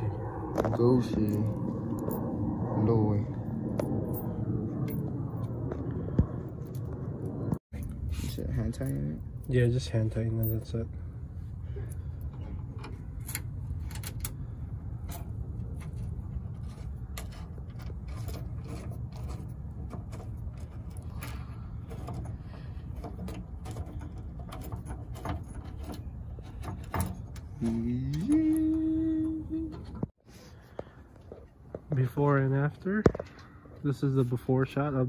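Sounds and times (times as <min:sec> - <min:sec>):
low rumble: 0:00.0 - 0:32.8.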